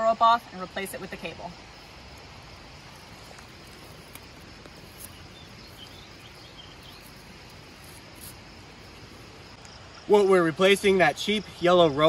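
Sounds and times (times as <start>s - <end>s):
high insect chirping: 0.0s - 12.0s.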